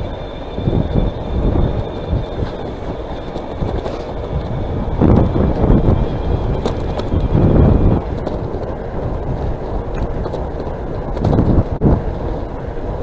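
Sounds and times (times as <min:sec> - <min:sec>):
bicycle riding rumble: 0:00.0 - 0:13.0
wind rushing over microphone: 0:00.0 - 0:13.0.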